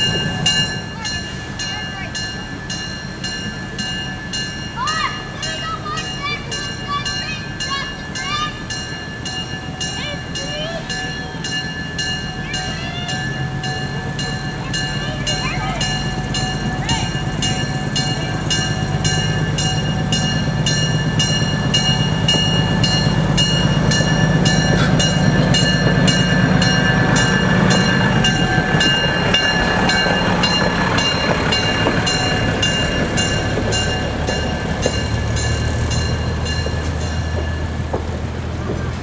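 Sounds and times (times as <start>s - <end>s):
railbus engine running: 0.0s - 39.0s.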